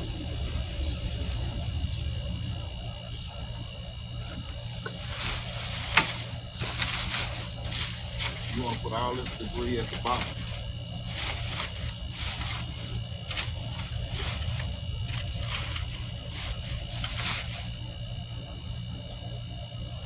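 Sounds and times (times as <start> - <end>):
dry leaves and twigs crackling: 0.0 - 20.0
steady low rumble: 0.0 - 20.0.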